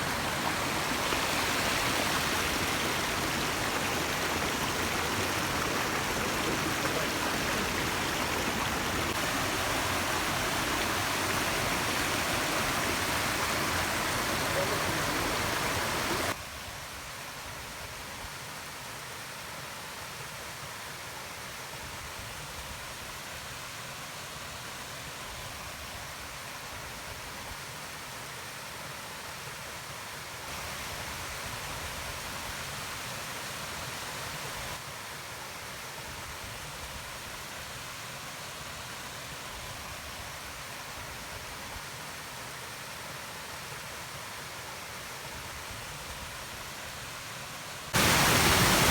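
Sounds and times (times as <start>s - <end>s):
rainforest ambience hiss: 0.0s - 48.9s.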